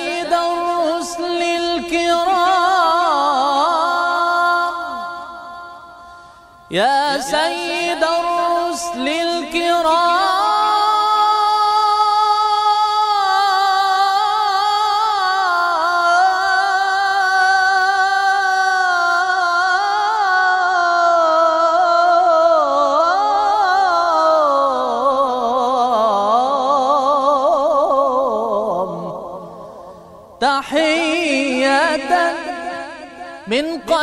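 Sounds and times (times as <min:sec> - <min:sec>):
man singing unaccompanied: 0:00.0 - 0:34.0.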